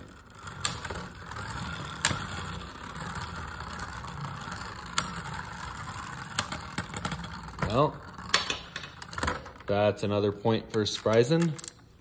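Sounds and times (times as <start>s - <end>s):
spinning tops clacking together: 0.0s - 9.6s
spinning tops whirring: 0.0s - 9.6s.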